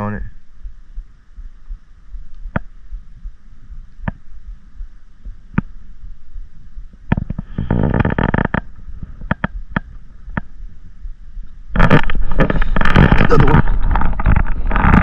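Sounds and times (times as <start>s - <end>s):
low rumble on microphone: 0.0s - 15.0s.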